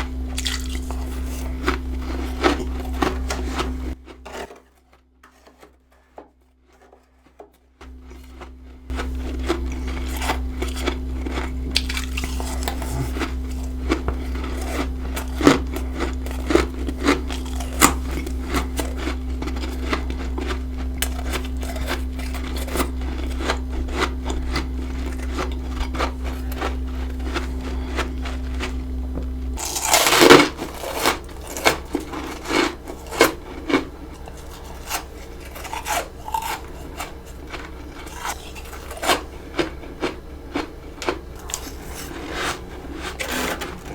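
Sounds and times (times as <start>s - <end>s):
crunching frost: 0.0s - 7.1s, 7.8s - 43.9s
steady low hum: 0.0s - 43.9s.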